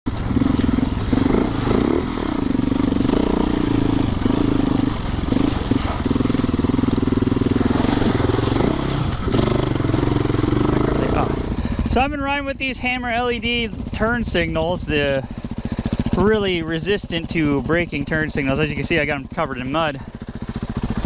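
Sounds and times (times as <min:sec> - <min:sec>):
dirt bike engine revving: 0:00.1 - 0:12.4, 0:13.0 - 0:21.0.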